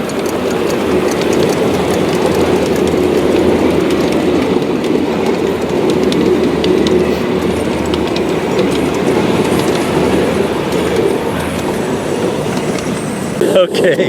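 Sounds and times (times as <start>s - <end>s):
train rumbling on track: 0.0s - 14.0s
wheels clicking on rails: 0.0s - 14.0s.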